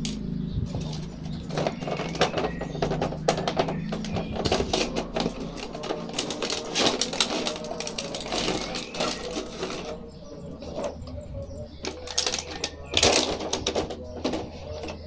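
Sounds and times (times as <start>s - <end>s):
plastic packaging crinkling: 0.8s - 10.0s, 11.8s - 14.8s.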